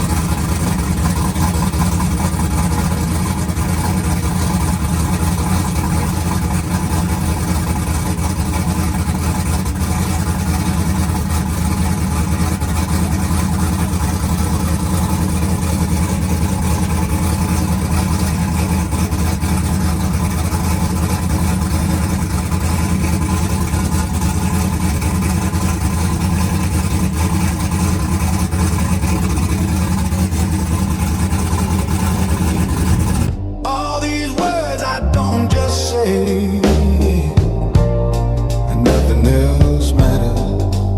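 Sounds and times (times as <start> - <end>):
truck engine idling loudly: 0.0 - 40.9.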